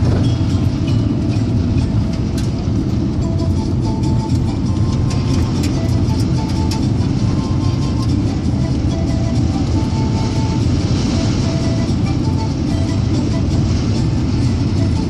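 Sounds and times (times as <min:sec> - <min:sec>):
vehicle interior road noise: 0:00.0 - 0:15.0.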